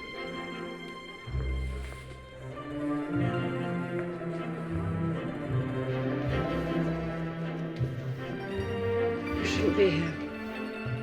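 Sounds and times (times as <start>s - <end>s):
orchestral music with held notes: 0.0s - 11.0s.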